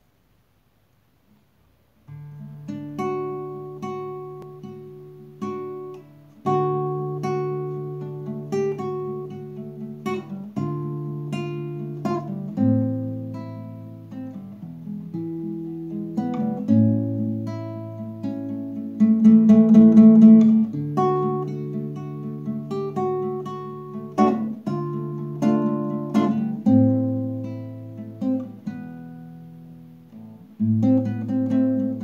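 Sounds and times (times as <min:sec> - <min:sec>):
classical guitar plucked chords: 0:02.0 - 0:32.0.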